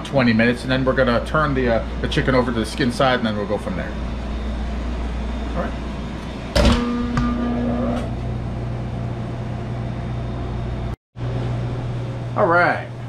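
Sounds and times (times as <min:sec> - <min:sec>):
kitchen machinery hum: 0:00.0 - 0:13.0.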